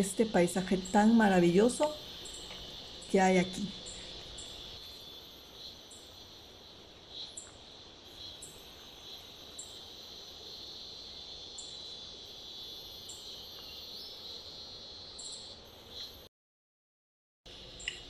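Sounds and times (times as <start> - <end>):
insects shrilling: 0.0 - 16.3.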